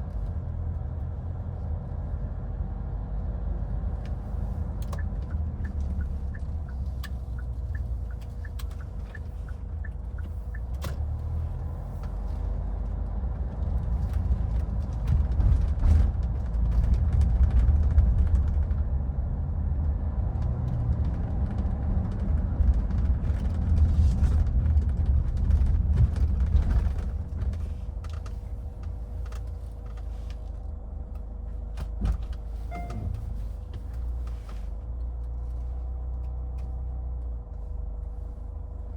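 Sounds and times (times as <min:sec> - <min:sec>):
engine and road noise rumble: 0:00.0 - 0:38.9.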